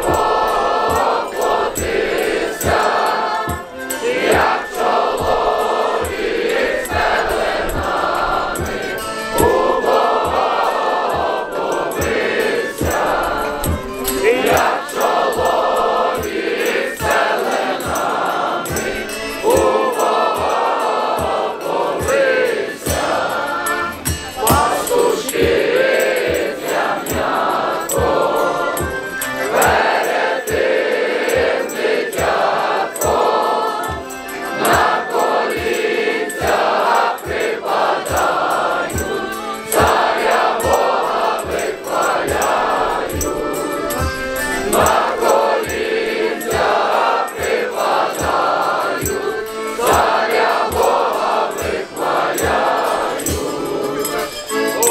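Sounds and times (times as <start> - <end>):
crowd singing carol in chorus: 0.0 - 54.9.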